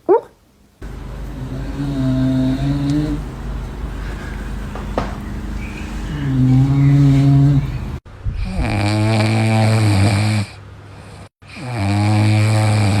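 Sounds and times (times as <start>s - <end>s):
dog snoring: 1.3s - 4.5s, 5.6s - 13.0s.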